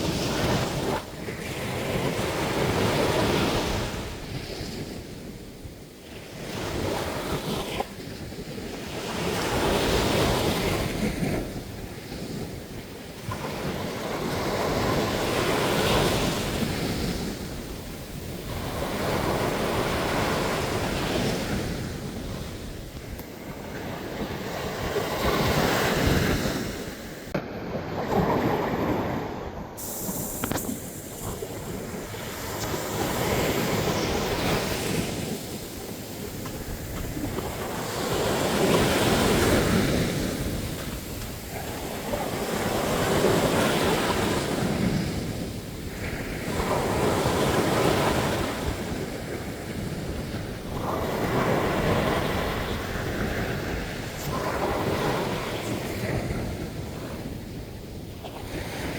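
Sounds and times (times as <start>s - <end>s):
ocean surf breaking on beach: 0.0s - 58.9s.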